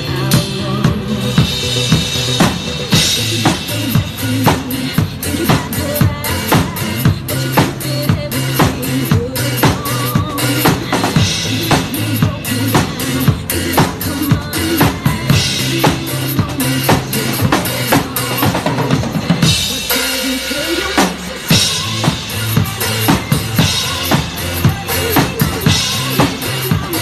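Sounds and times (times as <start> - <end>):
drum kit playing: 0.0 - 27.0
pop backing track with bass: 0.0 - 27.0.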